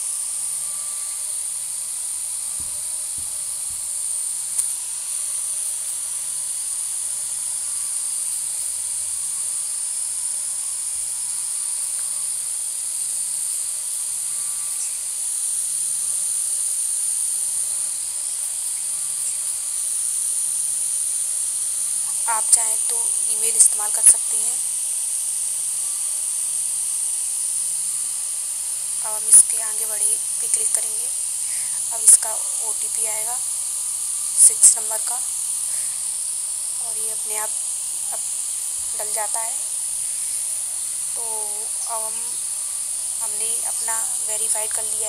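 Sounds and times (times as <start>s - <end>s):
high-pitched hiss: 0.0s - 45.0s.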